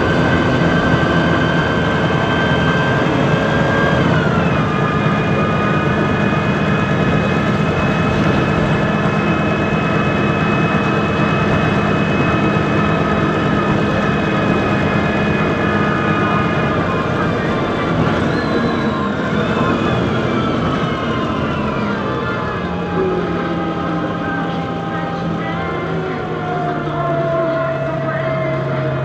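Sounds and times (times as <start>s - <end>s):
bus engine whining: 0.0s - 29.0s.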